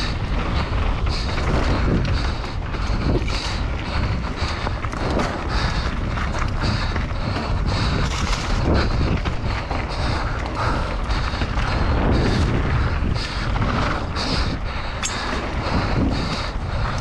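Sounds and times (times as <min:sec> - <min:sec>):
bike rattling over bumps: 0:00.0 - 0:17.0
bike tyres rolling over dirt: 0:00.0 - 0:17.0
wind buffeting microphone: 0:00.0 - 0:17.0.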